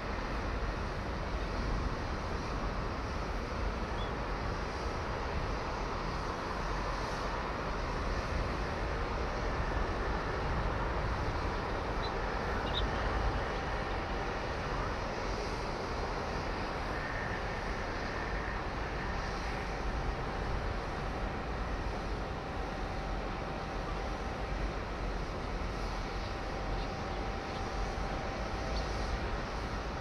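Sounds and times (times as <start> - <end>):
faint steady hum: 0.0 - 30.0
outdoor rumble and hiss: 0.0 - 30.0.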